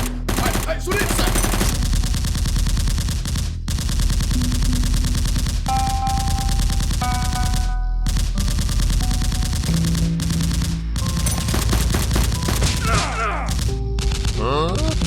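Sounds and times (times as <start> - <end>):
automatic gunfire: 0.0 - 14.4
background music: 0.0 - 15.0.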